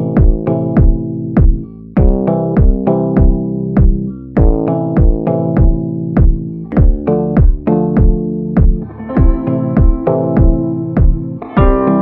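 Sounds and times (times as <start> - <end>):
deep kick drum: 0.0 - 12.0
synthesizer and electric piano chords: 0.0 - 12.0.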